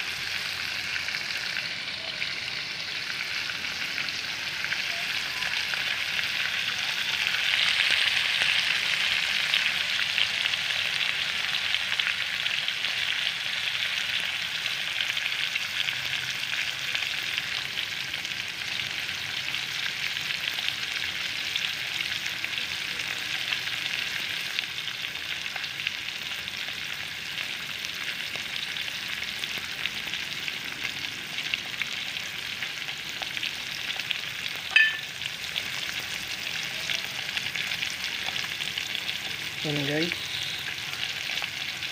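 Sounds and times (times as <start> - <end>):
liver frying in hot oil: 0.0 - 41.9.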